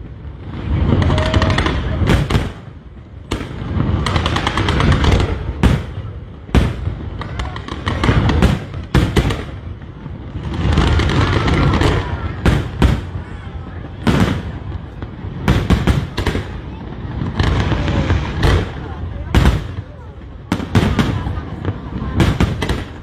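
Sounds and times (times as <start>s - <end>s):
fireworks booming: 0.0s - 23.0s
fireworks crackling: 0.0s - 23.0s.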